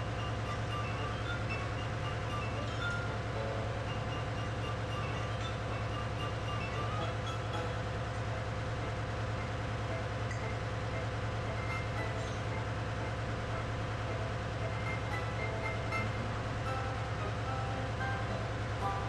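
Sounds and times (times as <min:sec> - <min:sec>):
engine room machinery drone: 0:00.0 - 0:19.0.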